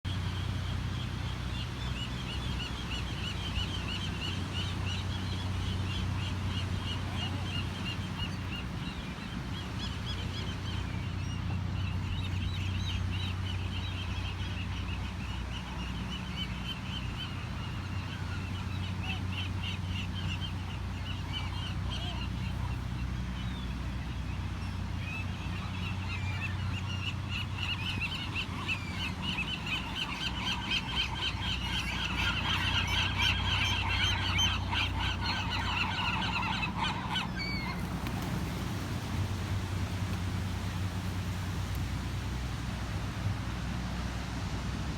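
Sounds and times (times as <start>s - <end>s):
seagulls calling: 0.4s - 41.9s.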